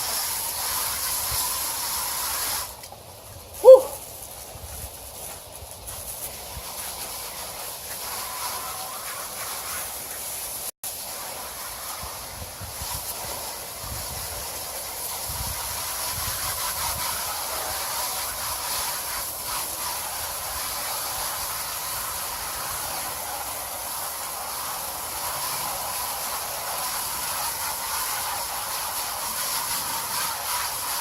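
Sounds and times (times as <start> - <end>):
hose spraying water: 0.0 - 31.0.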